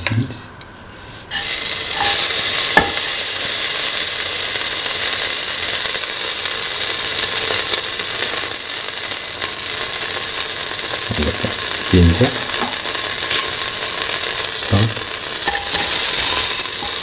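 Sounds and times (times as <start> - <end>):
seeds sizzling in hot oil: 1.3 - 17.0.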